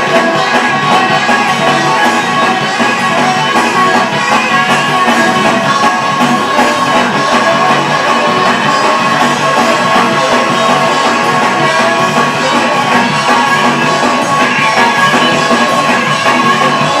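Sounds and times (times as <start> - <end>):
gospel band music: 0.0 - 17.0.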